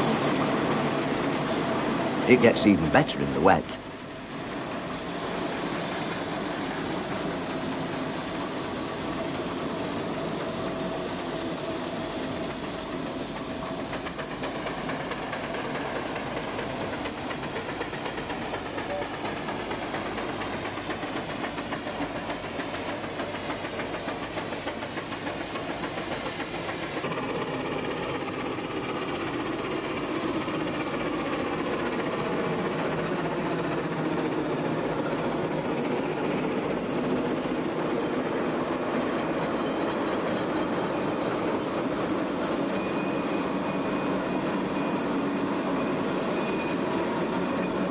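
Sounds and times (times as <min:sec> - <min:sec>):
steam engine exhaust beats: 0:00.0 - 0:47.9
steam hissing: 0:00.0 - 0:47.9.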